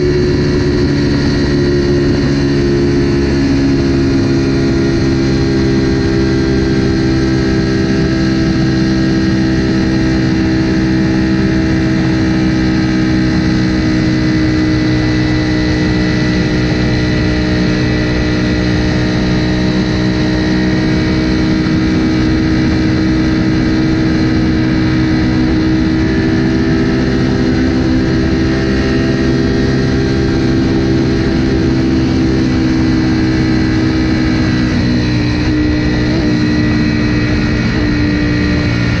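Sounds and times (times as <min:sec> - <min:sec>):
motorcycle engine at high revs: 0:00.0 - 0:39.0
wind rush: 0:00.0 - 0:39.0.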